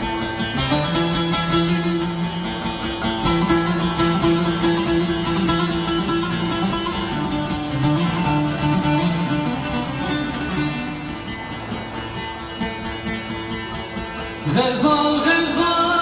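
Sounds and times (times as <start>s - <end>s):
instrumental music with plucked strings: 0.0s - 16.0s.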